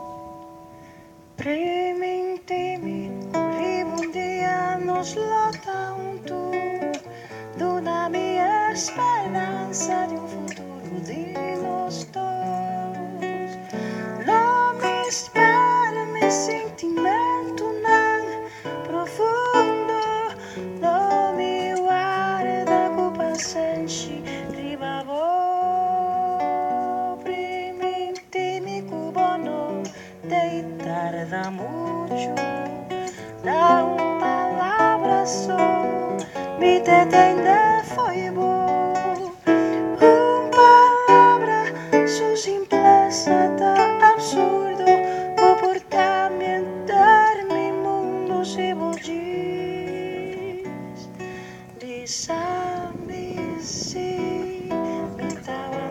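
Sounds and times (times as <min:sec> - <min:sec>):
acoustic guitar: 0:00.0 - 0:55.9
woman singing into a microphone: 0:00.0 - 0:55.9.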